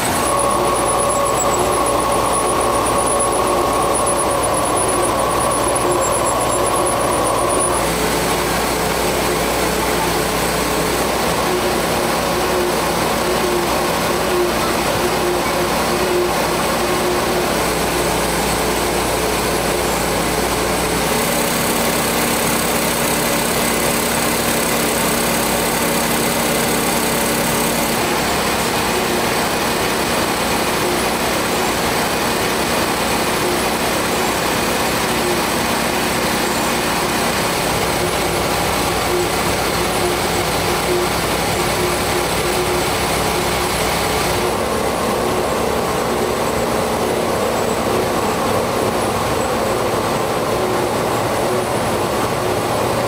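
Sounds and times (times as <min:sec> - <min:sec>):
machinery whirring: 0:00.0 - 0:53.0.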